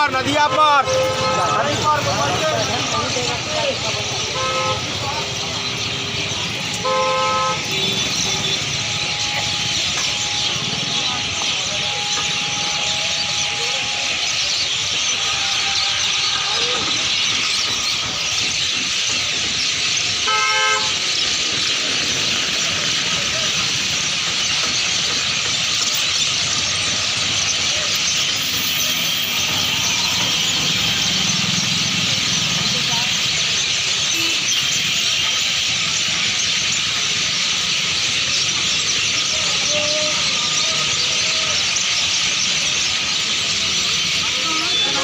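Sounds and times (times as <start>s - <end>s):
flock of birds chattering: 0.0s - 45.0s.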